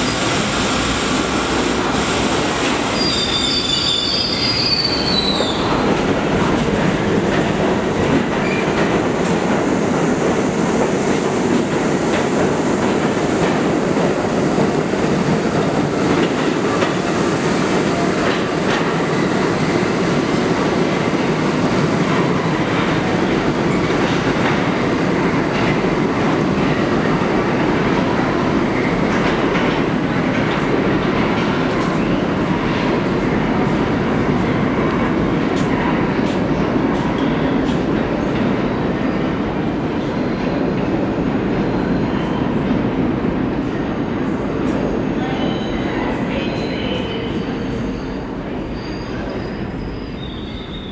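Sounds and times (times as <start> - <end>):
subway train wheels rumbling on rail: 0.0 - 50.9.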